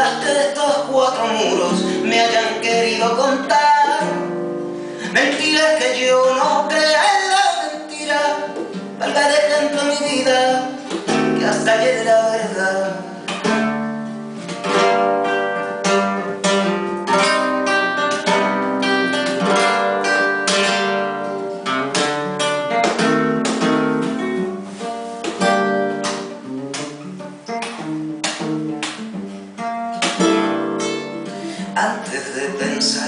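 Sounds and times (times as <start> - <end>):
nylon-string guitar playing: 0.0 - 33.0.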